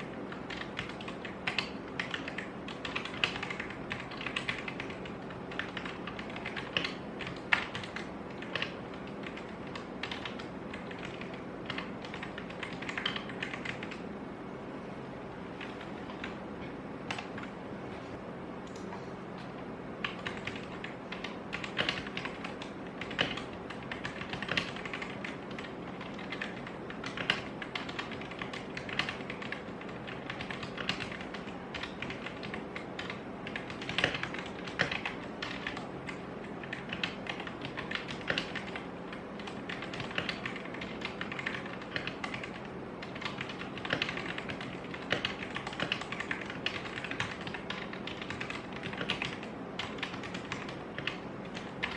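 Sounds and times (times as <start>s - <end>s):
mechanical keyboard typing: 0.0s - 14.0s, 20.0s - 51.9s
steady low hum: 0.0s - 51.9s.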